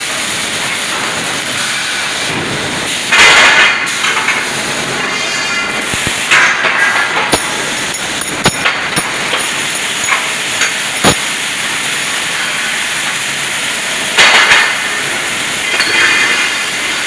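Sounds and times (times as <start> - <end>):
welding machine running: 0.0 - 17.0.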